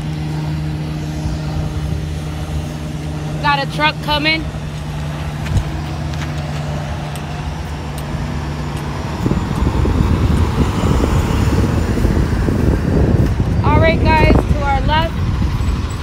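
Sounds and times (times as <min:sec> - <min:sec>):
steady engine hum: 0:00.0 - 0:16.0
truck rumble: 0:00.0 - 0:16.0.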